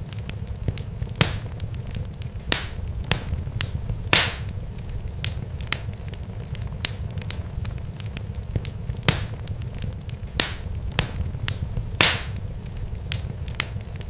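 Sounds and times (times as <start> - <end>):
sharp crackles and pops: 0.0 - 14.0
low rumble: 0.4 - 14.0.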